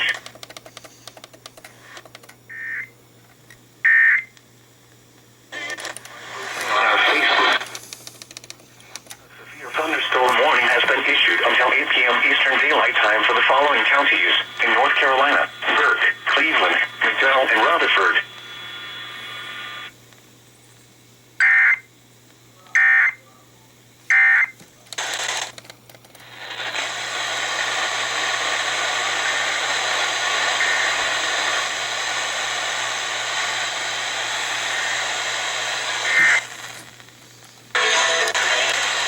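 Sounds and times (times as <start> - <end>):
radio static hiss: 0.0 - 3.0, 5.4 - 20.3, 24.1 - 25.6, 26.2 - 39.0.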